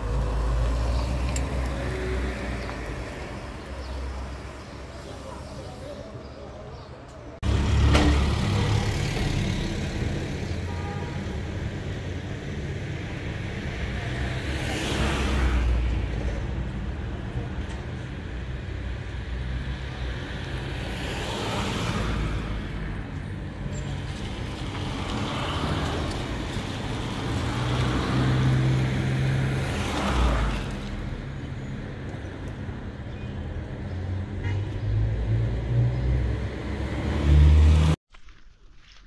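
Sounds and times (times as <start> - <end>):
cars passing: 0.0 - 38.0
low traffic rumble: 0.0 - 38.0.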